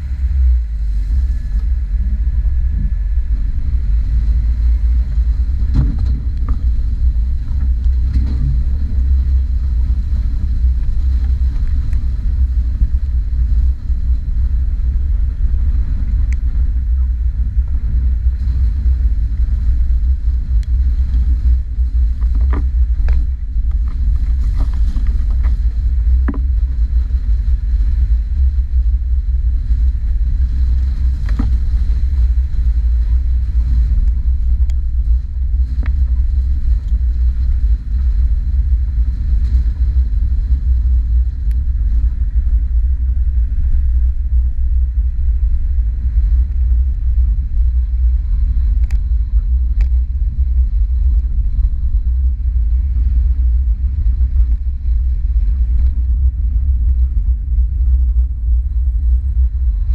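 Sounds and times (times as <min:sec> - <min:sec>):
car driving on gravel: 0:00.0 - 0:59.9.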